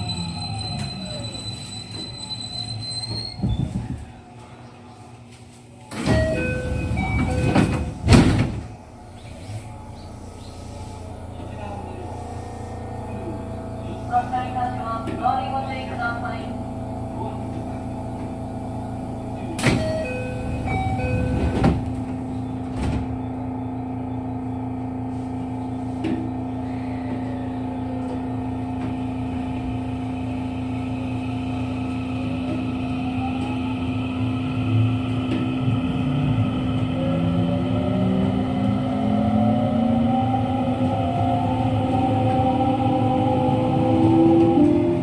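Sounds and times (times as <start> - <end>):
train car hum: 0.0 - 45.0
traction motor whine: 6.2 - 45.0.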